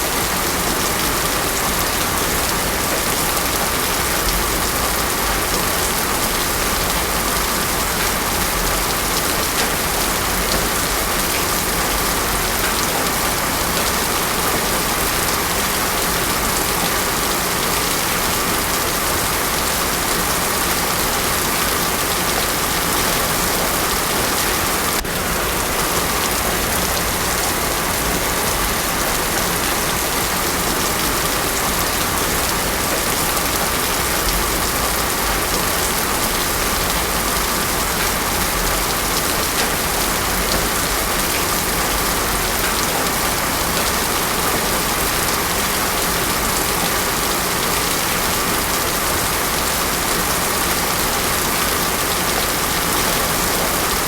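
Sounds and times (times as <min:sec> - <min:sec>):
heavy rain on road: 0:00.0 - 0:54.0.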